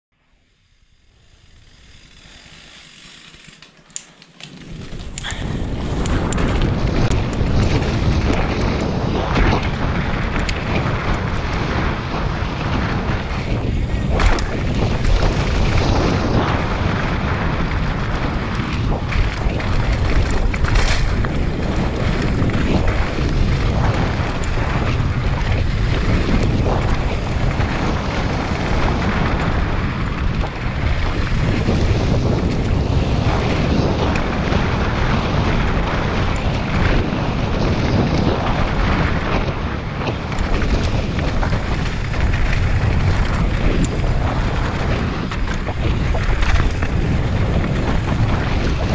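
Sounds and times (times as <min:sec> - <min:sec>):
bike rattling: 0:00.2 - 0:48.9
tyres rumbling on trail: 0:00.5 - 0:48.9
wind buffeting microphone: 0:04.6 - 0:48.9.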